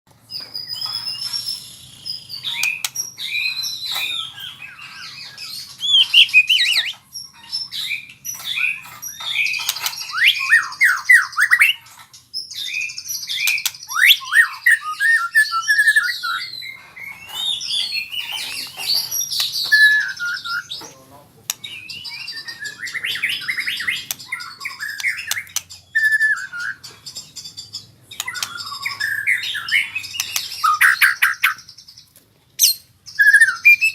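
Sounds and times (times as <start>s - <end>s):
bird singing whistles and trills: 0.3s - 33.9s.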